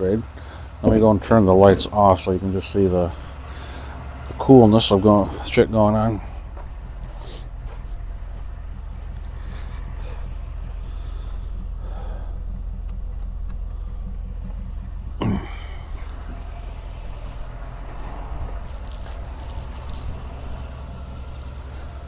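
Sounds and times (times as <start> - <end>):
pickup truck idling: 0.0 - 22.0.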